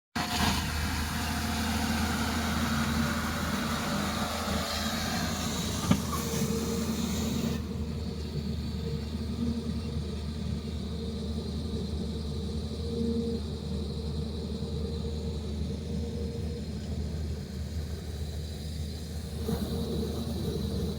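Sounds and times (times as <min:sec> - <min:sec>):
diesel engine running: 0:00.2 - 0:20.9.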